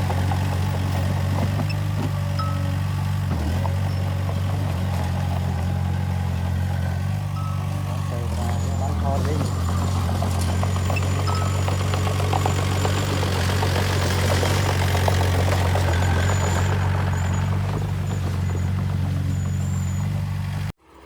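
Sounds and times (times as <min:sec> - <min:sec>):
rattling and clatter: 0:00.0 - 0:20.7
diesel engine running: 0:00.0 - 0:21.0.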